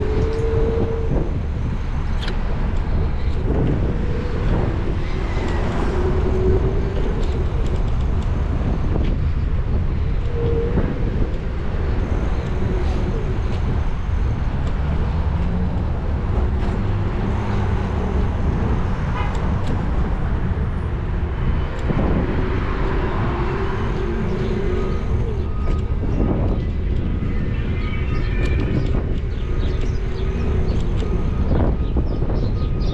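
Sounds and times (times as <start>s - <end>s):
car road and engine rumble: 0.0s - 32.9s
street traffic: 0.0s - 32.9s.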